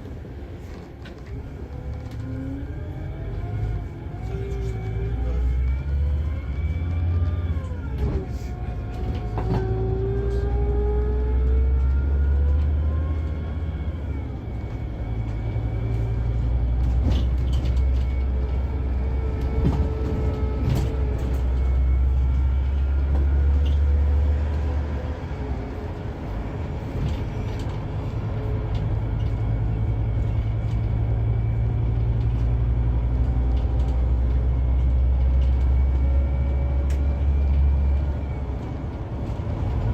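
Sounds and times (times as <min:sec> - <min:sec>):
coach engine drone and whine: 0:00.0 - 0:39.9.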